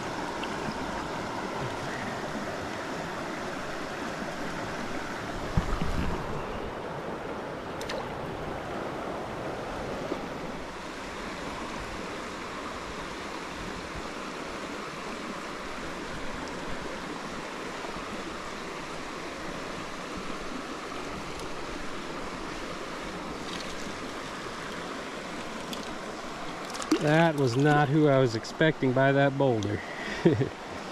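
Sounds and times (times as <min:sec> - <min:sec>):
stream running over rocks: 0:00.0 - 0:30.9.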